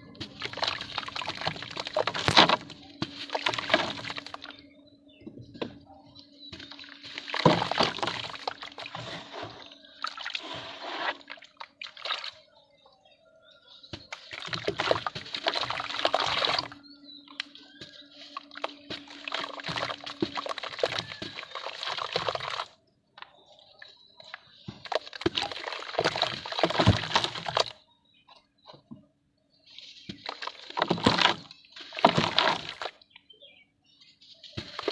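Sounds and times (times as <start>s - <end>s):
wet dirt crumbling and sloshing: 0.0s - 4.8s, 6.4s - 12.4s, 13.8s - 27.8s, 29.6s - 33.2s, 34.4s - 34.9s.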